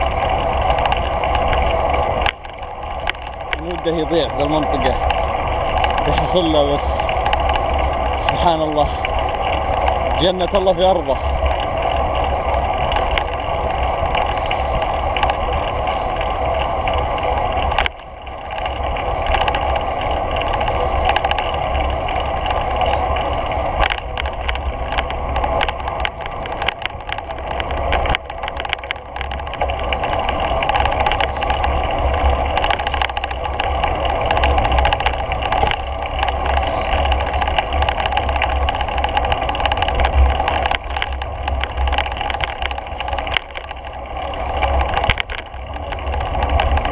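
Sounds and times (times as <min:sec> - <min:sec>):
rolling rumble on paved path: 0:00.0 - 0:46.9.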